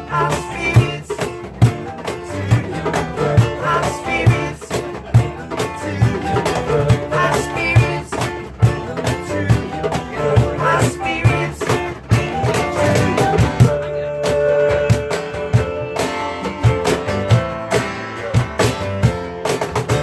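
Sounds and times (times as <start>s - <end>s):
person singing: 0.0s - 17.0s
bass notes: 0.0s - 20.0s
guitar strumming: 0.0s - 20.0s.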